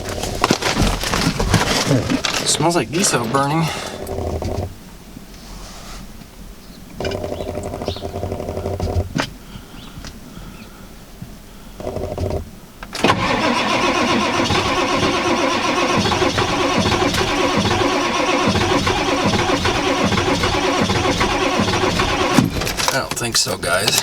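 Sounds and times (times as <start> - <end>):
diesel engine cranking: 0.0 - 5.2, 6.9 - 9.4, 11.8 - 24.0.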